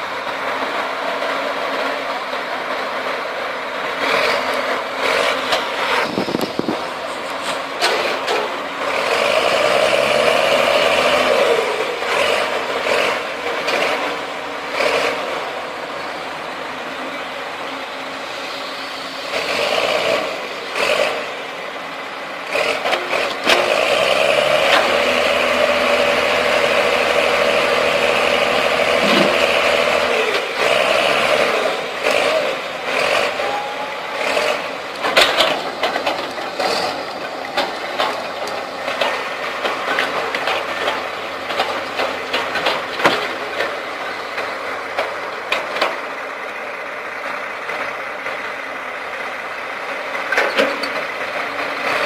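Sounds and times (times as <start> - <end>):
heavy diesel engines revving: 0.0 - 52.0.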